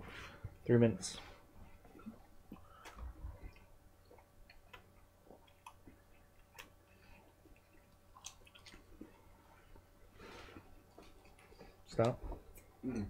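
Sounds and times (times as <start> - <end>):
man chewing and swallowing: 1.5 - 13.0.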